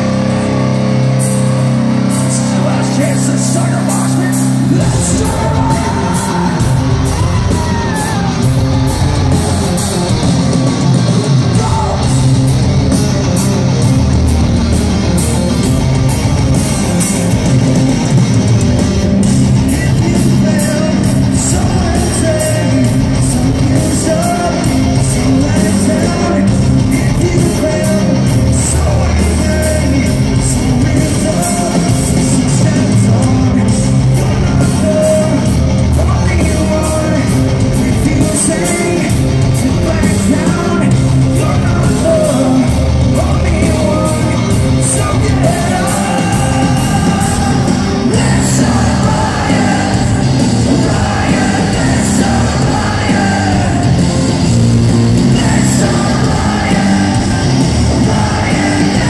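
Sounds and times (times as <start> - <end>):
singer's vocals and yells: 0.0 - 14.8, 15.6 - 59.0
live hard rock band: 0.0 - 59.0.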